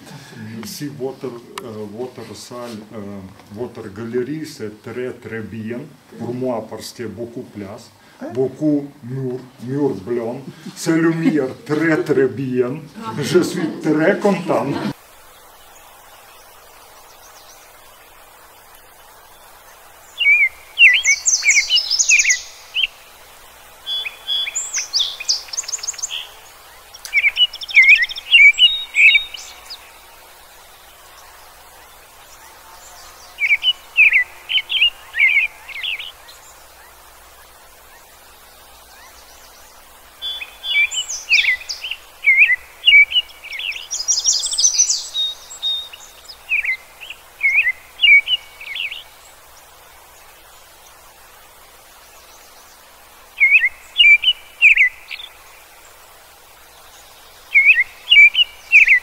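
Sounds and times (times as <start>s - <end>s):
faint steady hiss: 0.0s - 59.0s
songbird chirping: 0.0s - 59.0s.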